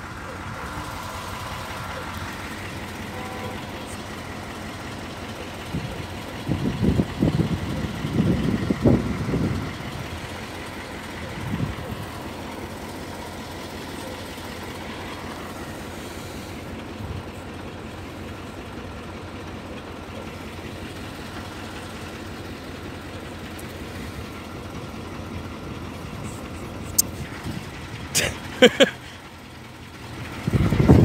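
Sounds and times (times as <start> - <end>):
motor vehicle noise: 0.0 - 31.0.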